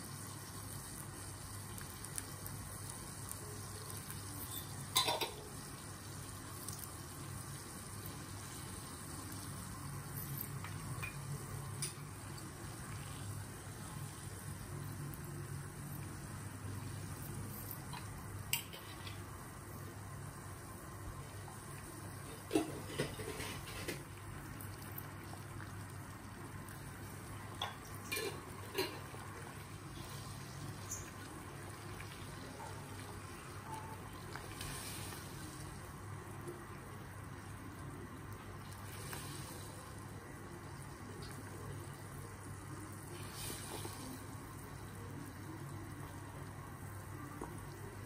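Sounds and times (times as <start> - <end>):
steady low hum and hiss: 0.0 - 48.0.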